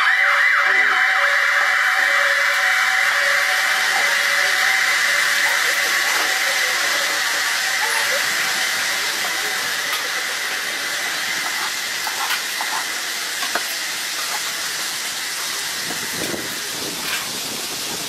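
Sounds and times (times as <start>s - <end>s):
sausages sizzling in frying pan: 2.5s - 18.0s.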